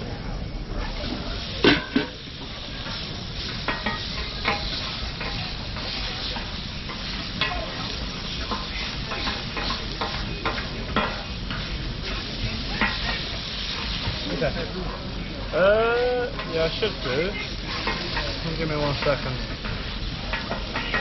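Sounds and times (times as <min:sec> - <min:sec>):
chicken sizzling on griddle: 0:00.0 - 0:21.0
tongs and spatula scraping metal: 0:02.8 - 0:14.7, 0:15.6 - 0:21.0.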